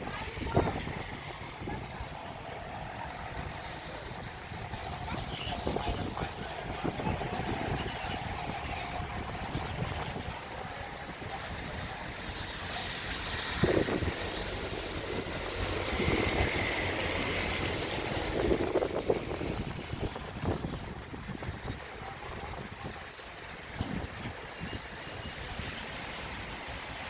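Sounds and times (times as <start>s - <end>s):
wind buffeting microphone: 0.0s - 26.6s.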